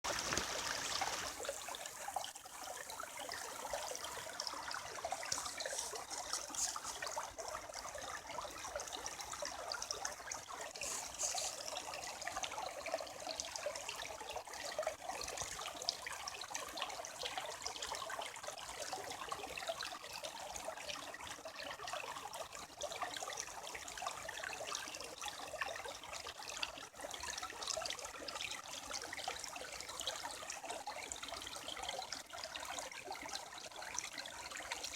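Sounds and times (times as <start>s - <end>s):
creek water running: 0.0s - 34.9s.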